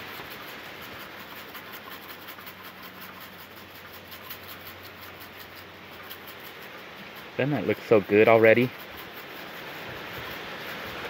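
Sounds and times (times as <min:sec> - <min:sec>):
insects chirping: 0:00.0 - 0:11.0
low hiss: 0:00.0 - 0:11.0.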